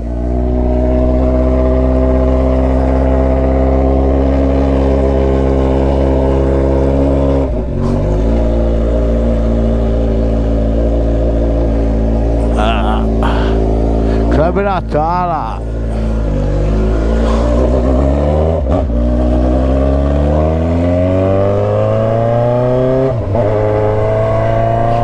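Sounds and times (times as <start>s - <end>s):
loud motorcycle engine: 0.0s - 25.0s.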